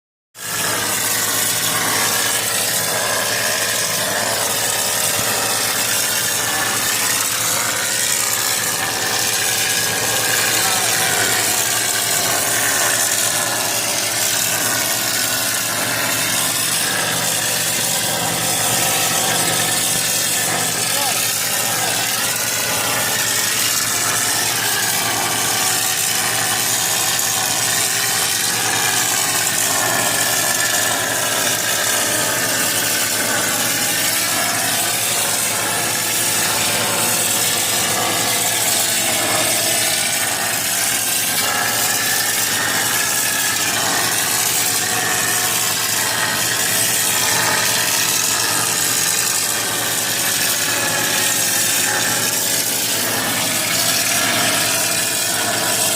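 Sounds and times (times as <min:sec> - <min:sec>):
mortar sprayer running: 0:00.4 - 0:55.9.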